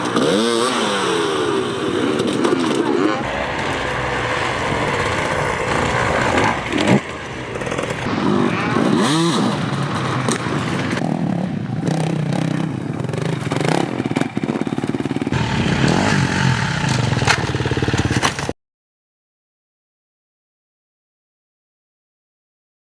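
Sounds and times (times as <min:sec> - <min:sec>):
dirt bike engines revving: 0:00.0 - 0:18.5.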